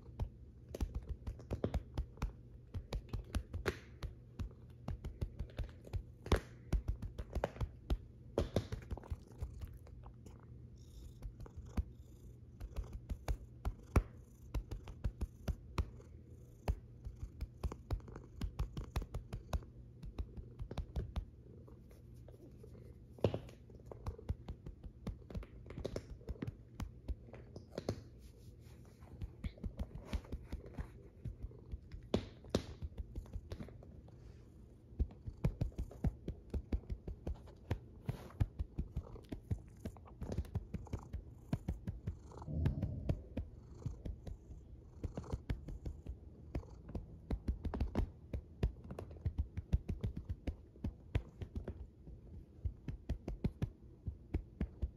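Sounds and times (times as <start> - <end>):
fingers scratching cat fur: 0.0 - 10.1, 11.0 - 54.9
cat purring: 0.0 - 54.9.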